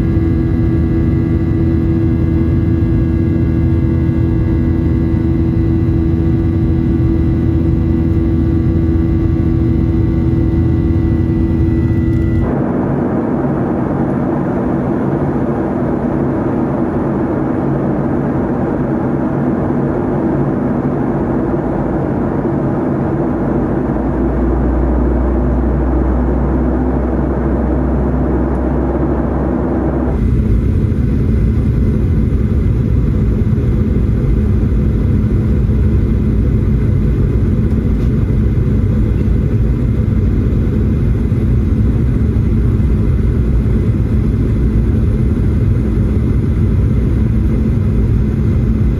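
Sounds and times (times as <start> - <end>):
jet engine cabin noise: 0.0 - 48.9
low hum: 0.0 - 48.9.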